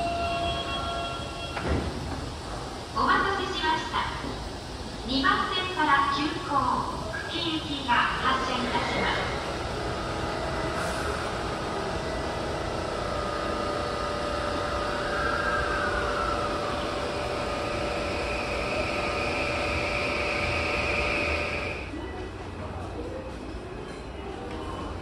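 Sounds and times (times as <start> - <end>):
station hum and hiss: 0.0 - 21.9.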